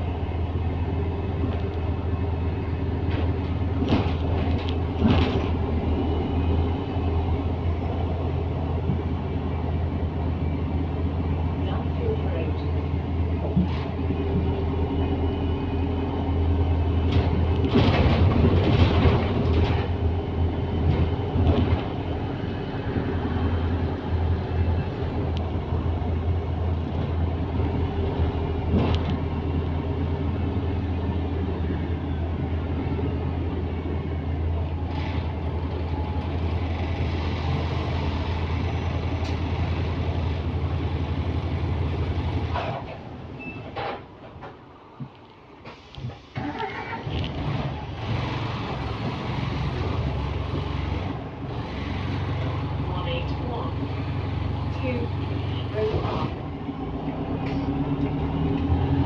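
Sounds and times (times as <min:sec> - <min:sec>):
bus body rattles: 0:00.0 - 0:09.9, 0:11.2 - 0:15.1, 0:16.1 - 0:59.0
bus engine drone: 0:00.0 - 0:59.0.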